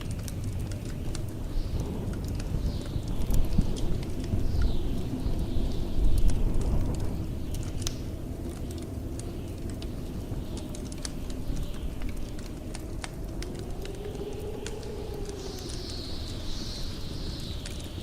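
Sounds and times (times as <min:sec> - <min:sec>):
blizzard wind howling: 0:00.0 - 0:18.0
wood fire crackling: 0:00.0 - 0:18.0.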